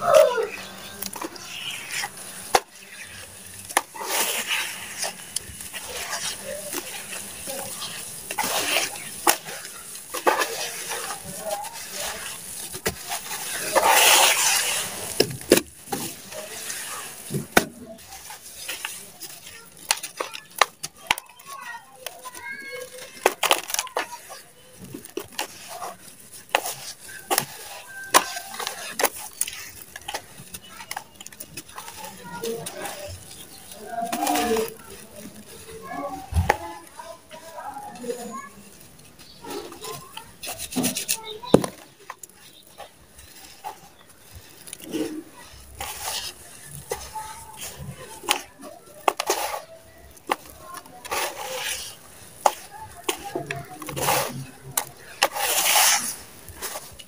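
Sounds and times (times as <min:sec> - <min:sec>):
gritty rustling of falling dirt: 0:00.0 - 0:57.0
wet mud squelching: 0:00.0 - 0:57.0.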